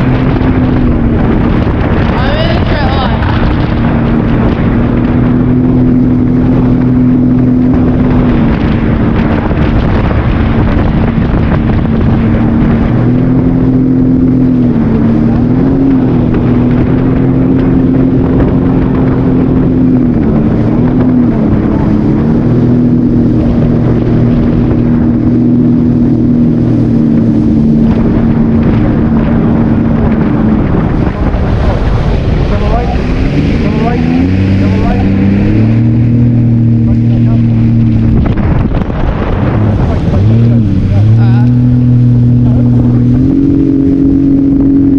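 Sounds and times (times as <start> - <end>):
jet ski engine running: 0.0 - 44.9
rush of wind and water: 0.0 - 44.9.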